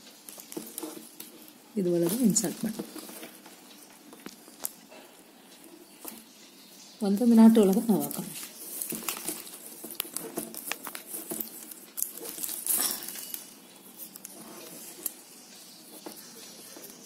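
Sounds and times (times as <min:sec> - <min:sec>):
plastic wire rustling and clicking: 0:00.0 - 0:06.3, 0:07.2 - 0:17.0.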